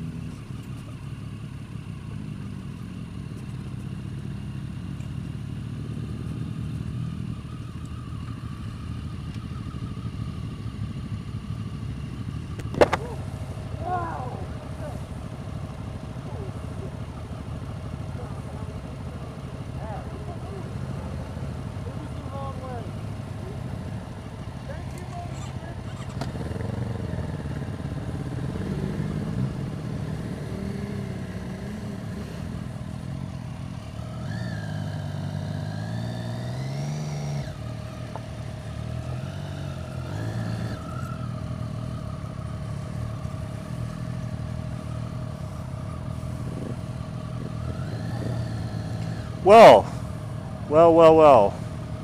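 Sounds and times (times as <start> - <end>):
motorcycle engines idling and revving: 0.0 - 52.0.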